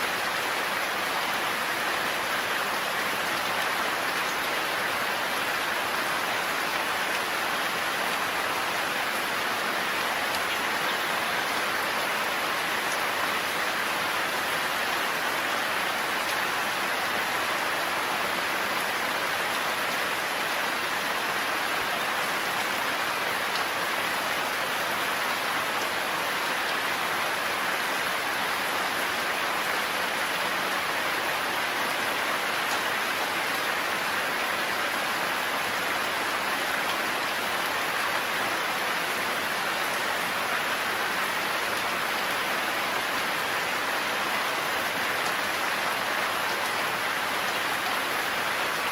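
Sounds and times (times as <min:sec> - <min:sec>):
heavy rain in a forest: 0:00.0 - 0:48.9.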